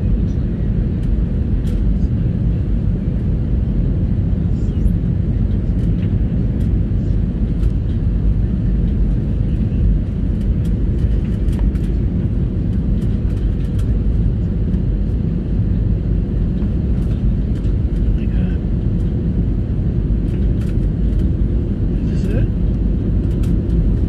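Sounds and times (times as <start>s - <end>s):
airliner engines and airflow rumble: 0.0s - 24.0s.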